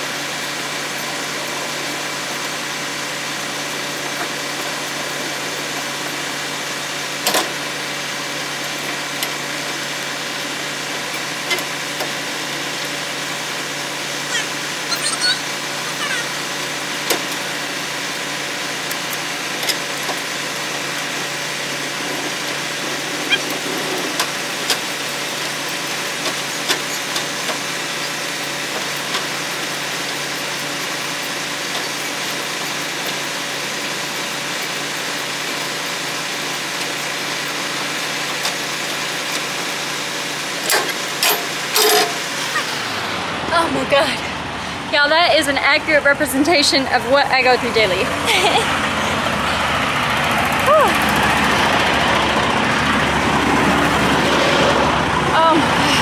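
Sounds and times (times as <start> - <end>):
diesel truck engine idling: 0.0 - 30.0, 39.0 - 56.0.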